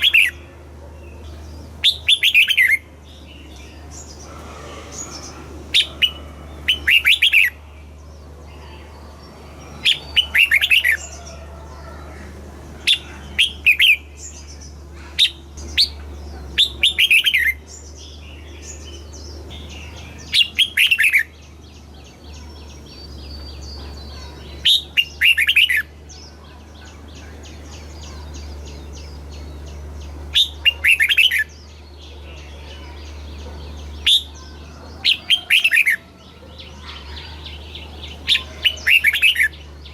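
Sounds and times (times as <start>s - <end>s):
bird song phrases: 0.0s - 39.9s.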